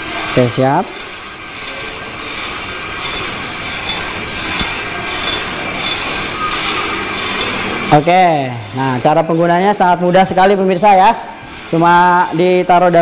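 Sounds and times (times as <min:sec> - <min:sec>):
coffee beans rattling in drum: 0:00.0 - 0:13.0.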